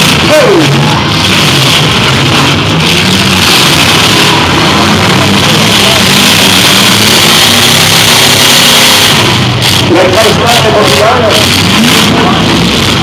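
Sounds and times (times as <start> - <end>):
car engines running hard: 0.0 - 13.0.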